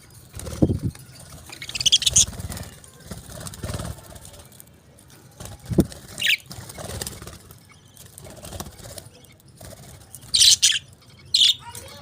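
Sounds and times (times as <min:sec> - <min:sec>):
parakeets chirping: 0:00.1 - 0:04.2, 0:05.5 - 0:12.0
wings fluttering: 0:00.3 - 0:04.7, 0:05.3 - 0:10.9.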